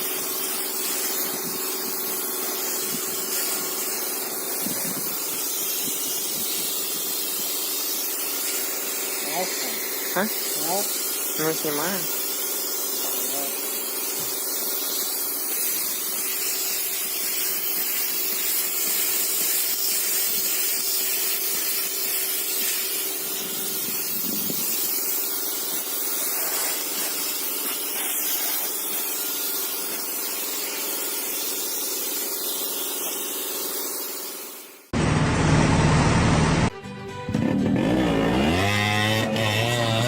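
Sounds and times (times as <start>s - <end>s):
steady spray hiss: 0.0s - 34.9s.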